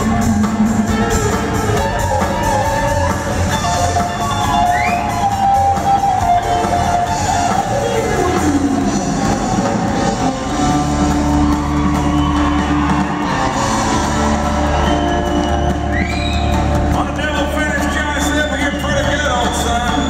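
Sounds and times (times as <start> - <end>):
live band with electric guitars: 0.0 - 20.0.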